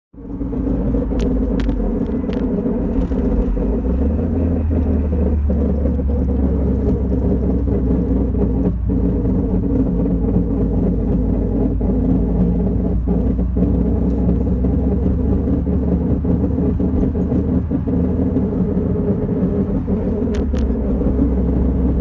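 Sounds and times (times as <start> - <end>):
loud grinding rumble from wheel: 0.2 - 22.0.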